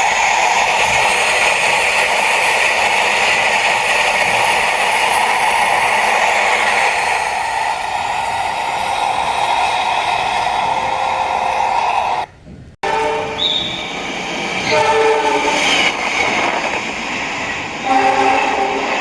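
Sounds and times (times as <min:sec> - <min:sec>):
train rolling on rails: 0:00.0 - 0:19.0.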